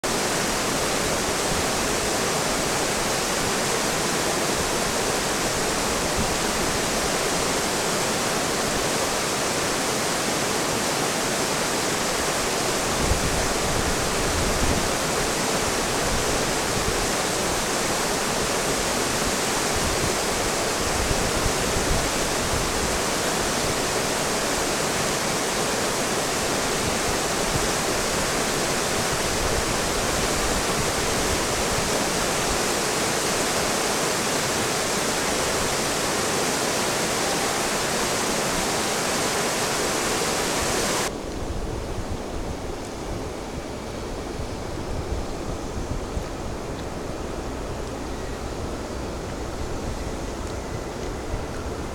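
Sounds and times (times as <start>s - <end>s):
whitewater rushing: 0.0s - 51.9s.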